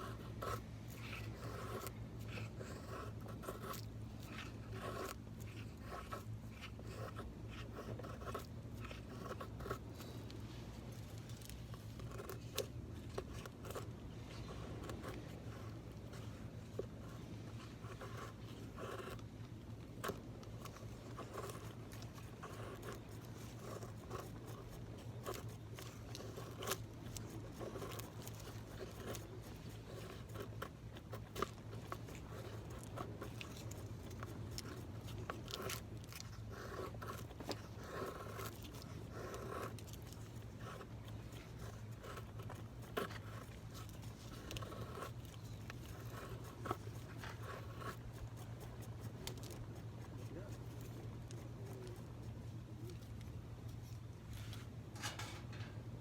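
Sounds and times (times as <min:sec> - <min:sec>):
knife scraping wood: 0:00.0 - 0:52.2, 0:53.1 - 0:56.0.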